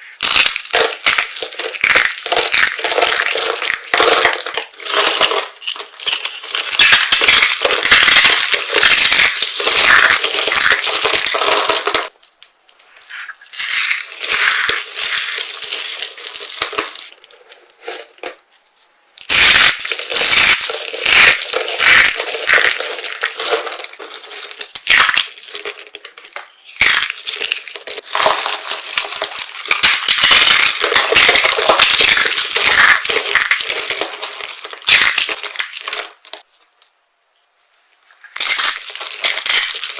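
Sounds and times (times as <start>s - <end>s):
dry soap crunching by hand: 0.0s - 36.5s, 37.6s - 39.9s.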